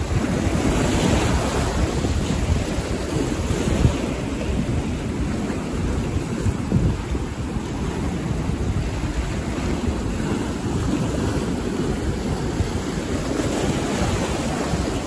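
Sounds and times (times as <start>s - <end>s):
ocean waves washing ashore: 0.0s - 15.0s
wind rumbling on microphone: 0.0s - 15.0s.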